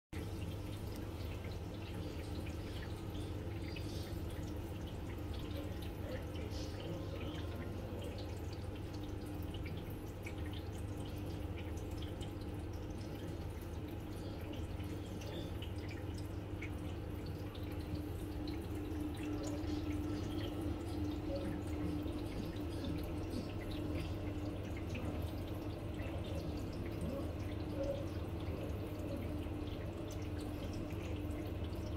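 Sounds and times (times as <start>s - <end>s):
low pump hum: 0.2s - 31.9s
water dripping and trickling: 0.2s - 31.9s.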